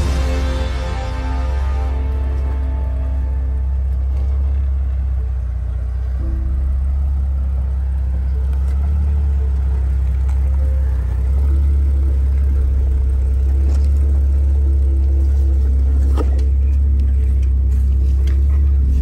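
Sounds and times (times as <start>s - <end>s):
suv engine rumbling: 0.0s - 19.0s.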